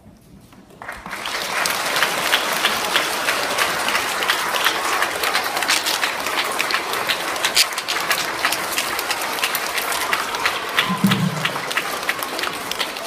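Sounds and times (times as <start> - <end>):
audience applauding: 0.8 - 13.0.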